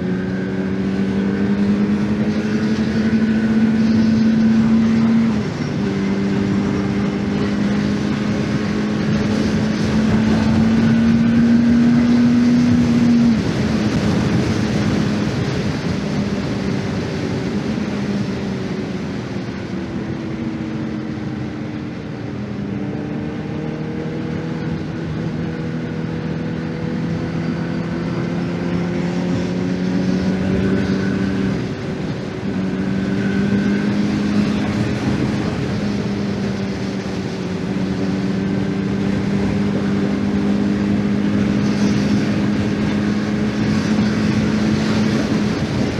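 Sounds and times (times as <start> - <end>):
motorcycle engine running: 0.0 - 45.9
wind and road noise: 0.0 - 45.9.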